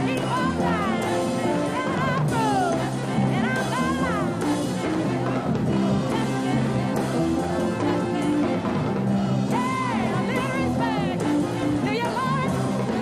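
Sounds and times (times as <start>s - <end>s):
upbeat pop music: 0.0s - 13.0s.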